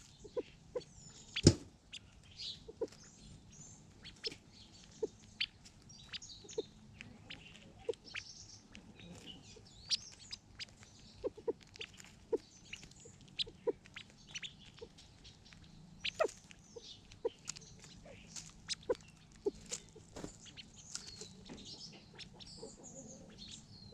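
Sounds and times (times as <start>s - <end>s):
bird chirps and twitters: 0.0s - 23.9s
quail ticking calls: 0.0s - 23.9s.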